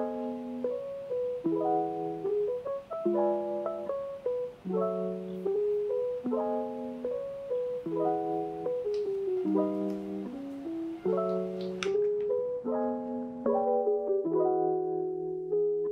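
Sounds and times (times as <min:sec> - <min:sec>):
mellow keyboard music: 0:00.0 - 0:15.9.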